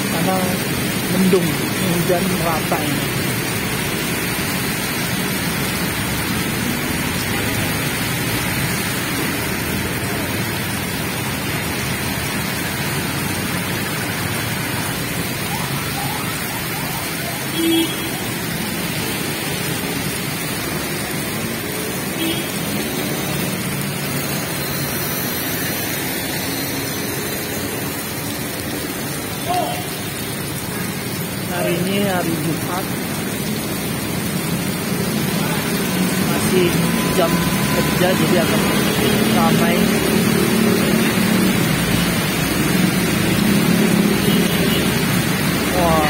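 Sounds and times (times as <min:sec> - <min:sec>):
heavy rain on road: 0:00.0 - 0:46.0
traffic: 0:00.0 - 0:46.0.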